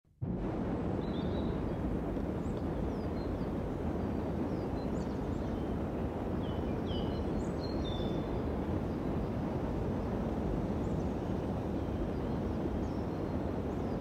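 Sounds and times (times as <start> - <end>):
wind rumbling on microphone: 0.2 - 14.0.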